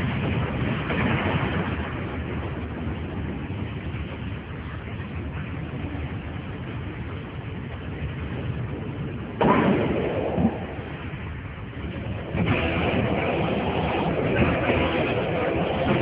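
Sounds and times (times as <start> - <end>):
explosion rumble: 0.0 - 16.0.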